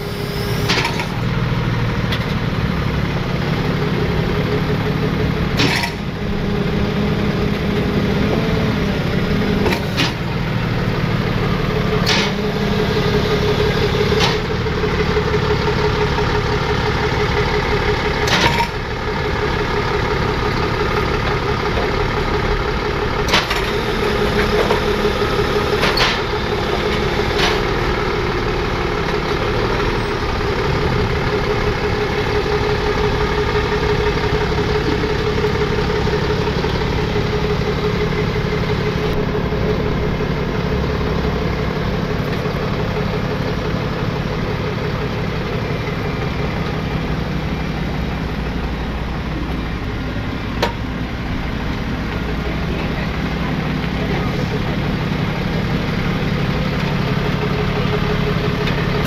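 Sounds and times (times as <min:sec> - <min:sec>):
tow truck engine running: 0:00.0 - 0:59.0.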